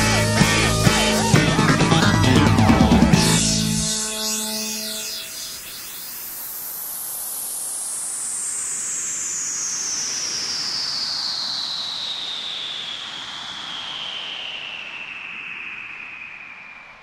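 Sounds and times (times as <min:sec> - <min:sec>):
white-noise sweep falling in pitch: 0:00.0 - 0:17.0.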